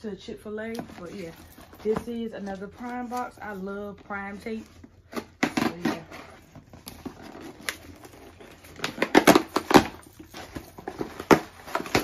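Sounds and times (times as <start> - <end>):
cardboard crackling: 0.6 - 12.0.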